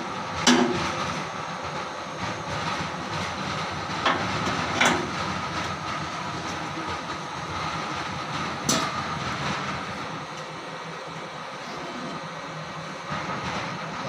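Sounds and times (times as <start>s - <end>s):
machinery noise with whine: 0.0s - 14.0s.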